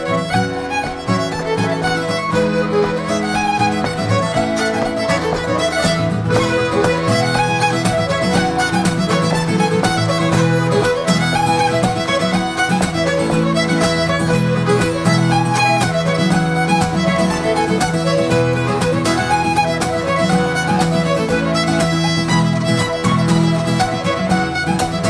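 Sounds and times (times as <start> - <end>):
accordion: 0.0 - 25.0
fiddle melody: 0.0 - 25.0
mandolin: 0.0 - 25.0
strummed acoustic guitar: 0.0 - 25.0.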